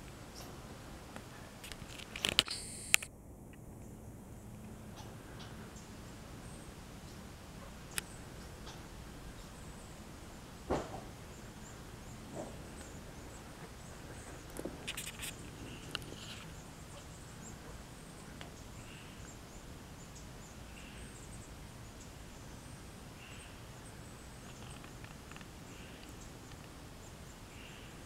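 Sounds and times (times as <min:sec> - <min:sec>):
faint outdoor hush: 0:00.0 - 0:28.0
tree frog calling: 0:03.8 - 0:28.0.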